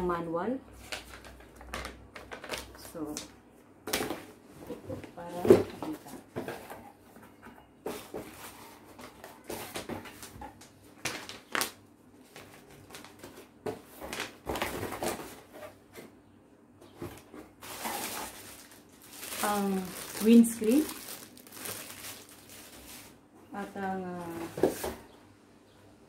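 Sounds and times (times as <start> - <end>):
cardboard and plastic rustling: 0.8 - 3.2, 3.8 - 16.2, 16.8 - 25.2.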